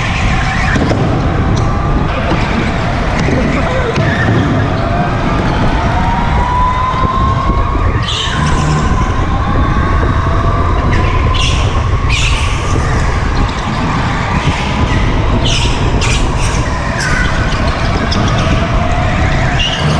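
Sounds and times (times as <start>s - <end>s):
wind and vibration rumble: 0.0s - 19.9s.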